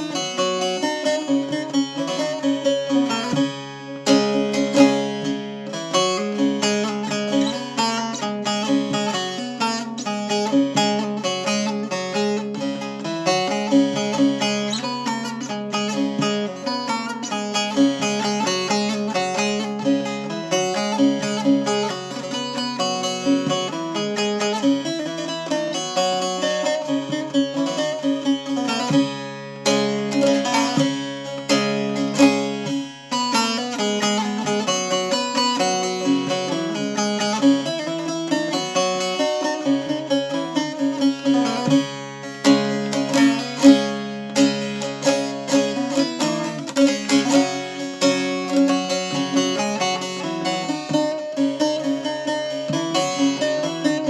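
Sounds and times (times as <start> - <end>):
plucked lute melody: 0.0 - 54.0.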